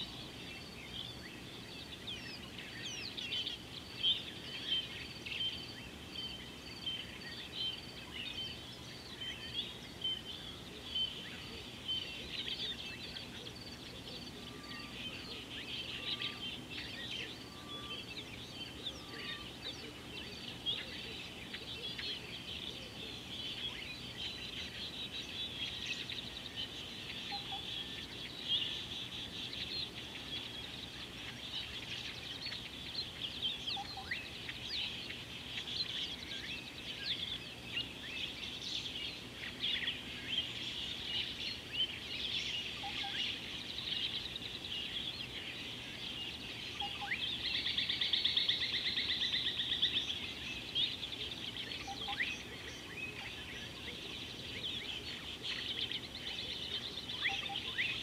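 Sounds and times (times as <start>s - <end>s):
many birds chirping: 0.0s - 58.0s.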